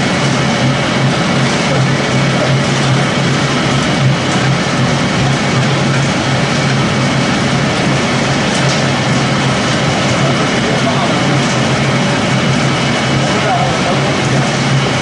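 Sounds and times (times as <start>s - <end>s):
pellet machine running: 0.0s - 15.0s.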